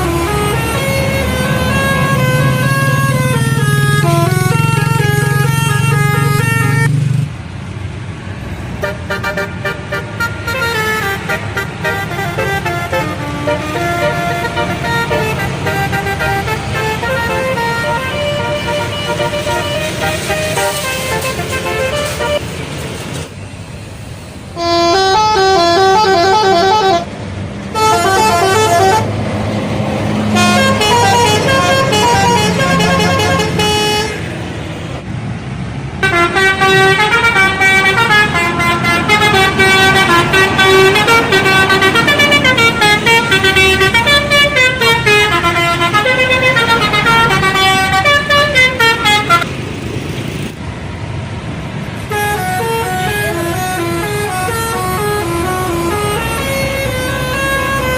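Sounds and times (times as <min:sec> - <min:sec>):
bus air horns playing melodic toots: 0:00.0 - 0:07.0, 0:08.8 - 0:23.0, 0:24.6 - 0:29.4, 0:30.1 - 0:34.4, 0:36.0 - 0:49.6, 0:52.0 - 0:57.9.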